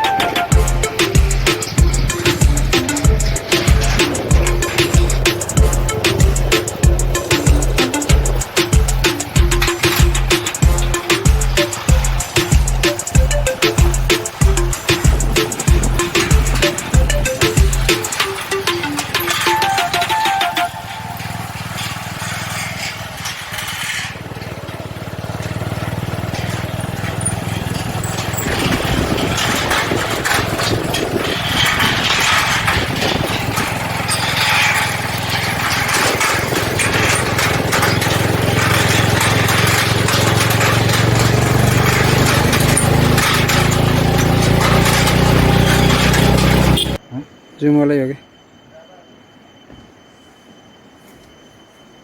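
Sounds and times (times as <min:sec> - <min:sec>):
motorcycle engine running: 0:00.0 - 0:47.0
road noise: 0:00.0 - 0:47.1
wind: 0:00.0 - 0:52.0.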